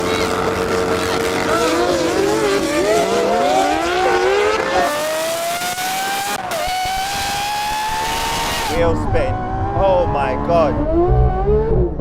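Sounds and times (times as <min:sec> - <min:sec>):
supercar engines accelerating: 0:00.0 - 0:12.0.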